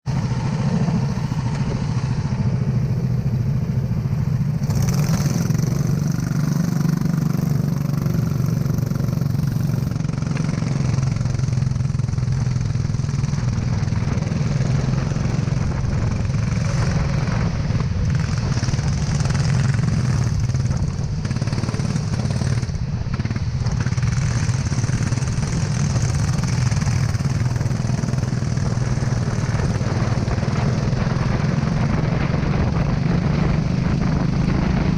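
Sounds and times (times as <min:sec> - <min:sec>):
go-kart engine running: 0:00.0 - 0:34.9.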